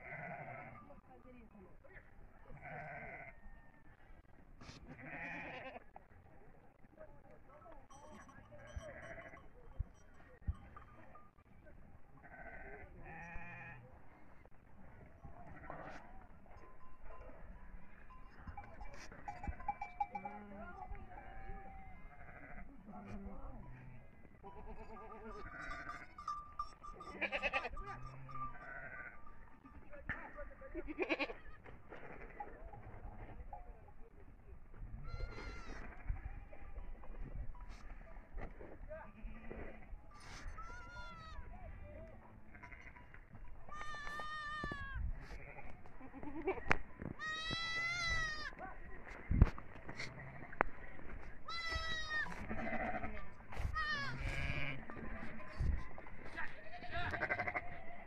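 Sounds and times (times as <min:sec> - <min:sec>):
sheep and goats bleating: 0:00.0 - 0:06.1, 0:07.9 - 0:11.4, 0:12.1 - 0:58.0.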